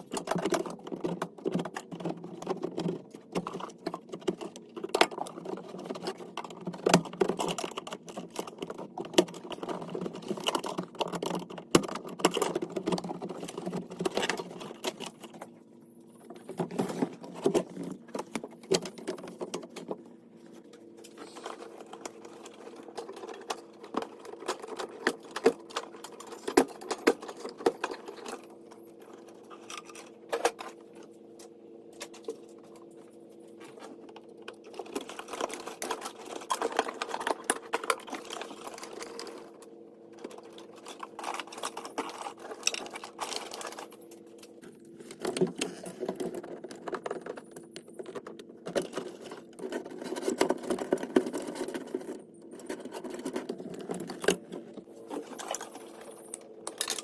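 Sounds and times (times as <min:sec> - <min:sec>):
clicking and rattling of hand work: 0:00.0 - 0:15.5, 0:16.3 - 0:32.9, 0:33.6 - 0:57.0
steady hum: 0:00.0 - 0:57.0.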